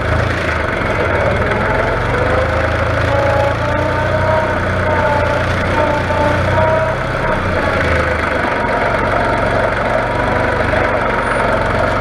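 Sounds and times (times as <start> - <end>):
steady whine: 0.0 - 12.0
tractor diesel engine running: 0.0 - 12.0.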